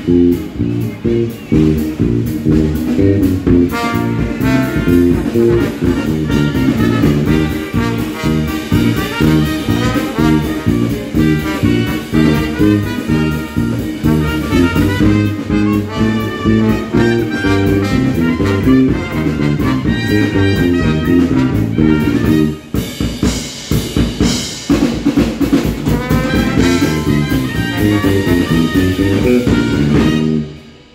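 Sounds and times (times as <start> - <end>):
clarinet: 0.0 - 22.8, 25.9 - 30.7
trumpet: 0.0 - 23.4, 25.4 - 30.9
drum kit: 0.0 - 30.9
electric bass guitar: 0.0 - 30.9
trombone: 0.0 - 30.9.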